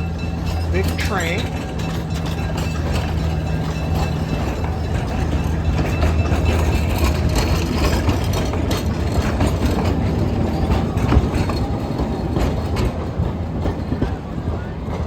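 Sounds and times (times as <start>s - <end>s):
locomotive engine hum: 0.0s - 15.0s
train wheels clacking over rail joints: 0.0s - 15.0s.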